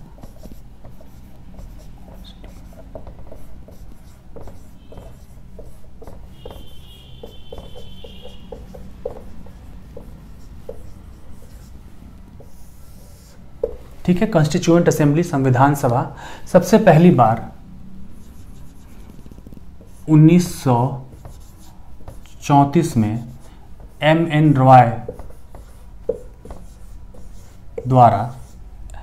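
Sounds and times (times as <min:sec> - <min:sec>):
marker squeaking on whiteboard: 0:00.0 - 0:11.8, 0:12.4 - 0:14.4, 0:18.2 - 0:22.5, 0:23.2 - 0:28.6.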